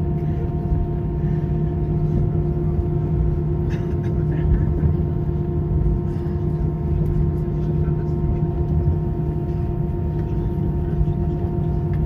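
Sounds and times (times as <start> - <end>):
airliner cabin drone: 0.0 - 12.0
constant humming tones: 0.0 - 12.0.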